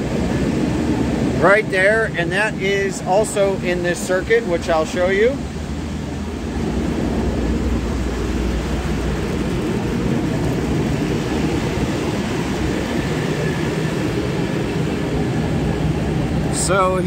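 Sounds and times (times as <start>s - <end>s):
hvac units rumbling: 0.0s - 17.0s.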